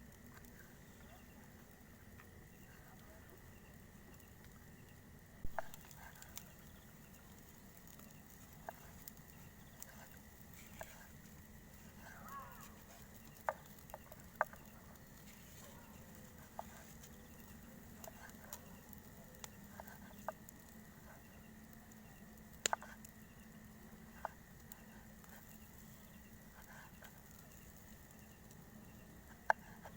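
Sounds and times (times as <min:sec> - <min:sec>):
campfire crackling: 0:00.0 - 0:29.9
faint steady background noise: 0:00.0 - 0:29.9.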